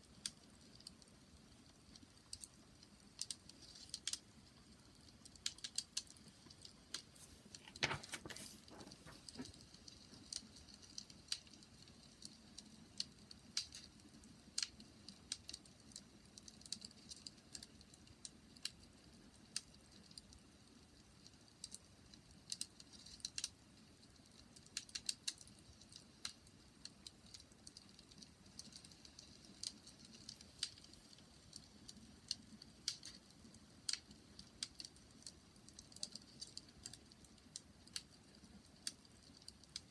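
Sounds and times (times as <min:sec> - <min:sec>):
low hush of burning fire: 0:00.0 - 0:39.9
wood fire crackling and popping: 0:00.0 - 0:39.9.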